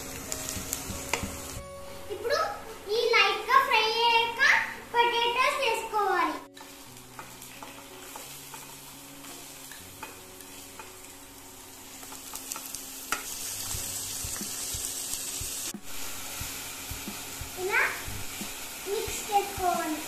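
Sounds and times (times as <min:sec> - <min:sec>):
potatoes sizzling in hot oil: 0:00.0 - 0:20.0.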